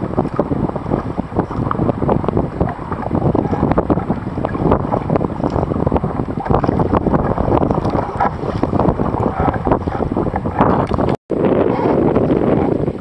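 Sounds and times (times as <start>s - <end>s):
water splashing from paddle: 0.0s - 13.0s
wind buffeting microphone: 0.0s - 13.0s.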